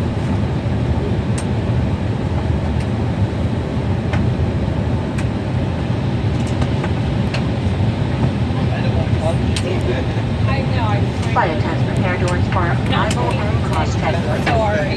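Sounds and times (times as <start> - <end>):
jet engines rumbling: 0.0 - 14.9.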